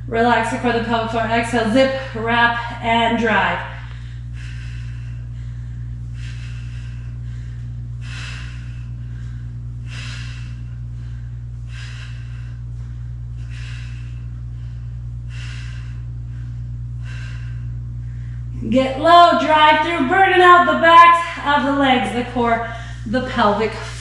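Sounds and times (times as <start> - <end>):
steady low hum: 0.0 - 24.0
woman breathing heavily: 0.0 - 24.0.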